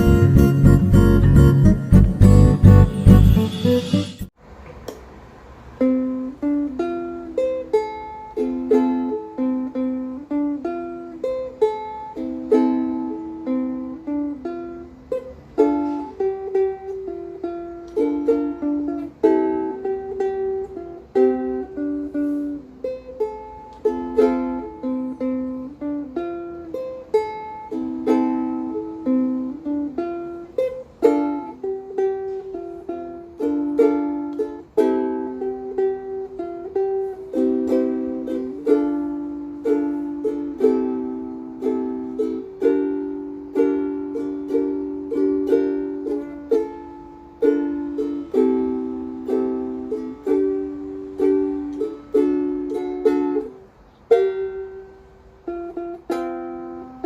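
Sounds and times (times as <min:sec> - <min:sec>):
fingerstyle ukulele melody: 0:00.0 - 0:05.0, 0:05.8 - 0:57.0.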